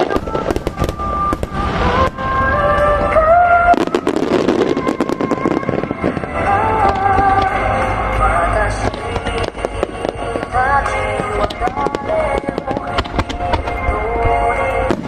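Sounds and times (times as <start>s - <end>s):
fireworks bangs and crackles: 0.0s - 15.0s
music over loudspeakers: 0.0s - 15.0s.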